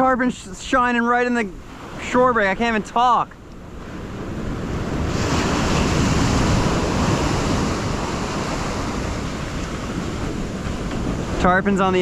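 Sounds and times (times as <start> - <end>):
ocean waves breaking on sand: 0.0 - 12.0.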